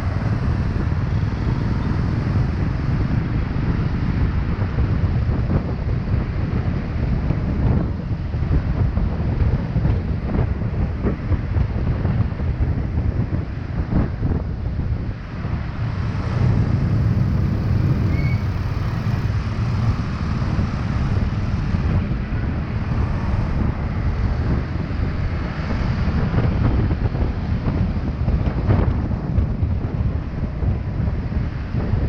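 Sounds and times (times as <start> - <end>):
motorcycle noise: 0.0 - 32.0
wind rumble on microphone: 0.0 - 32.0.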